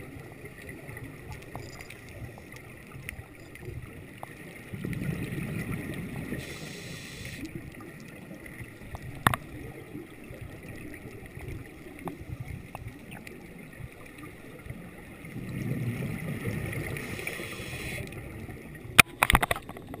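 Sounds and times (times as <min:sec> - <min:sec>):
gurgling exhaled bubbles underwater: 0:00.0 - 0:20.0.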